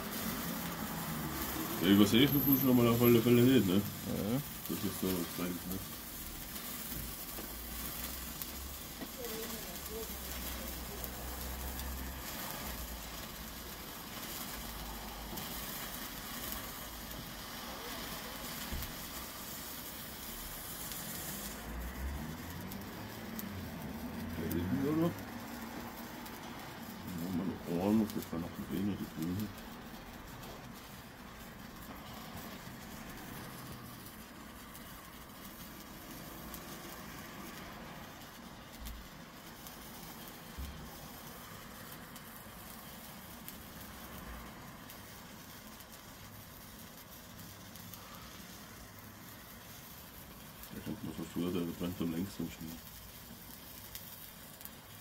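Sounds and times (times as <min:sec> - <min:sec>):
sparkler burning with hiss: 0:00.0 - 0:55.0.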